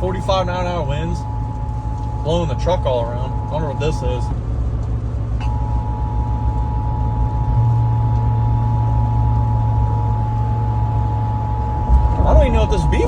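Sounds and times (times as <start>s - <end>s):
low rumble inside truck: 0.0s - 13.0s.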